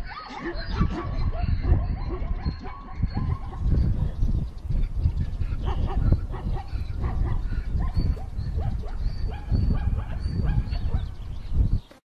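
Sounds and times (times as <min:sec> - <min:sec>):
zebra yelping calls: 0:00.0 - 0:11.2.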